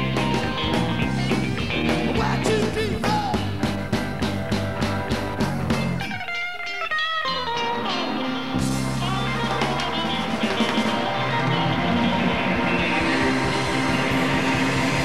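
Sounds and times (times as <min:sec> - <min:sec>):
electric guitar lick: 0:00.0 - 0:15.0
rock and roll band playing: 0:00.0 - 0:15.0.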